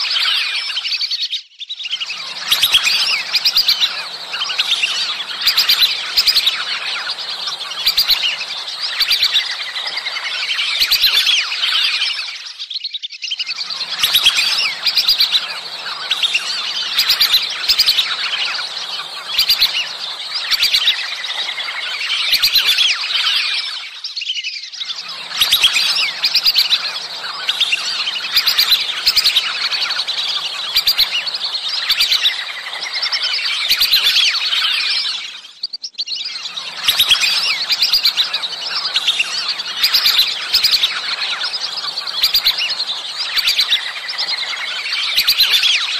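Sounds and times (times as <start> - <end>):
whistling ducks calling: 0.0 - 45.9.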